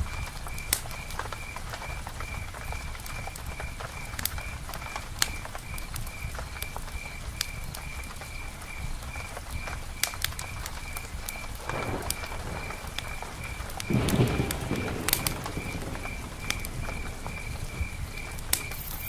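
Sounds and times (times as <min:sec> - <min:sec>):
campfire crackling: 0:00.0 - 0:19.0
rain pattering: 0:00.0 - 0:19.0.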